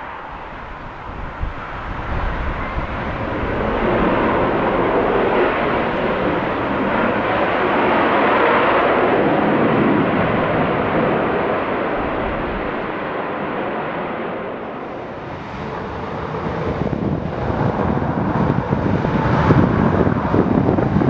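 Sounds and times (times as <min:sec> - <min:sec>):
jet fighter engine at takeoff: 0:00.0 - 0:21.0.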